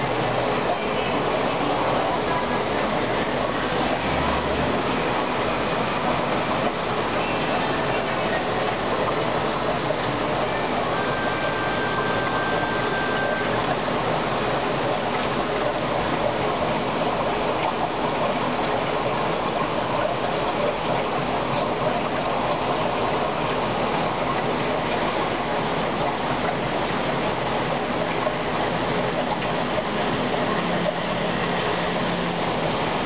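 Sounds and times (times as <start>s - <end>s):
aquarium filter water rushing: 0.0s - 33.0s.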